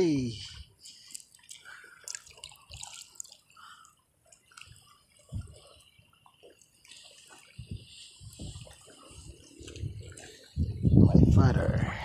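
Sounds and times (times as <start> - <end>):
water dripping and splashing: 0.0 - 10.9.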